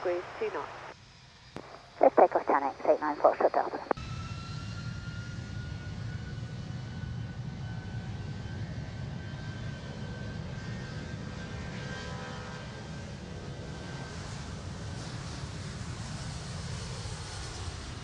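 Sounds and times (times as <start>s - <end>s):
jet engines at takeoff: 0.0s - 18.0s.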